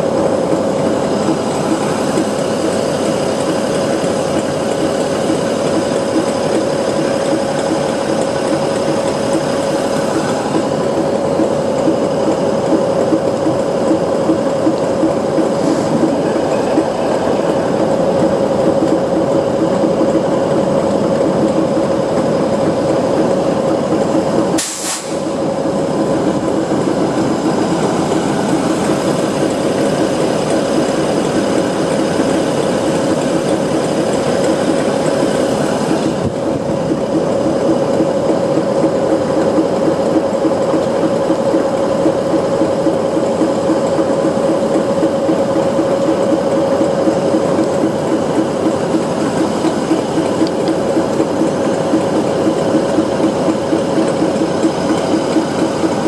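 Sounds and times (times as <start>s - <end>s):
diesel locomotive humming: 0.0s - 56.0s.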